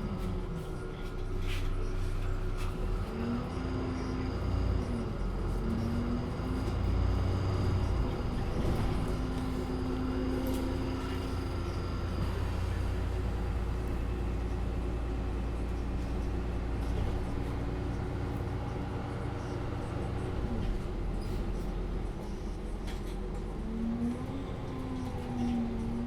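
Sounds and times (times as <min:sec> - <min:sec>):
bus engine rumble with whine: 0:00.0 - 0:26.0.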